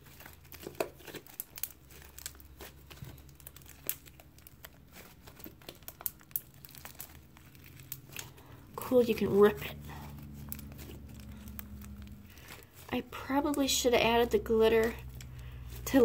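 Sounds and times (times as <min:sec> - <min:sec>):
slime squeezed by hand: 0:00.0 - 0:13.2.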